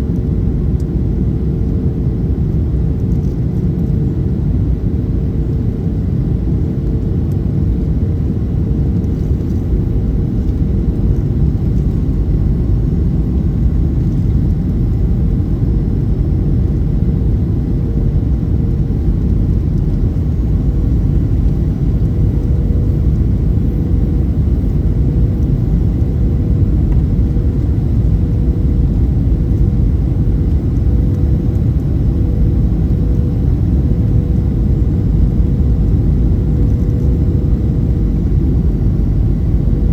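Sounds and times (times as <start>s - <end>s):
airliner cabin rumble: 0.0s - 39.9s
faint steady hum: 0.0s - 39.9s.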